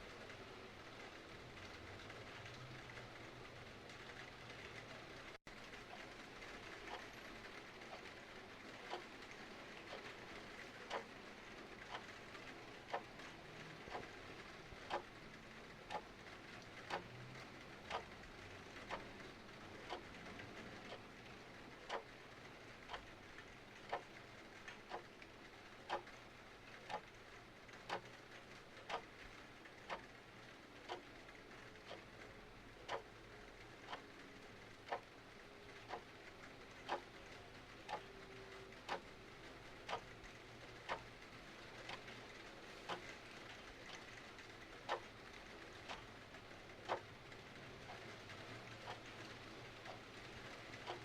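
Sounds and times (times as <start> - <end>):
mechanical clock ticking: 5.7 - 51.0.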